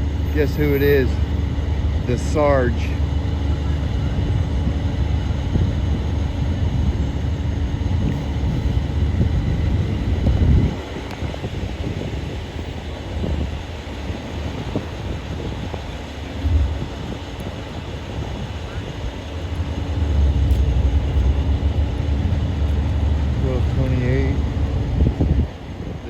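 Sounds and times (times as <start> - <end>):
road traffic rumble: 0.0 - 26.0
wind buffeting microphone: 0.0 - 26.0.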